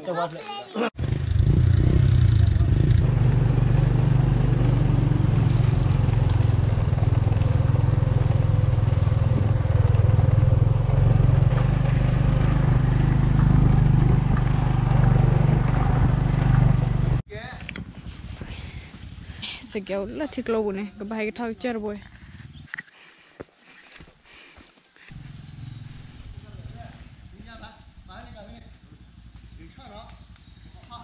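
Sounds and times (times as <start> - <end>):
motorcycle engine running: 1.0 - 20.7, 25.1 - 31.0.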